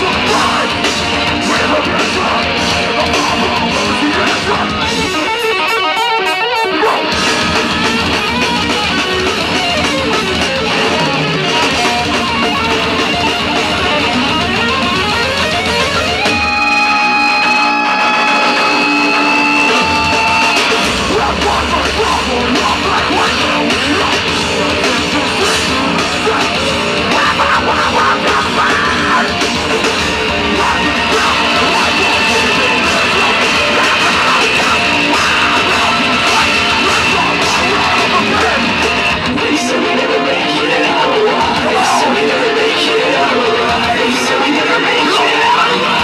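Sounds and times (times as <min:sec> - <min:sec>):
metal band playing live: 0:00.0 - 0:46.0.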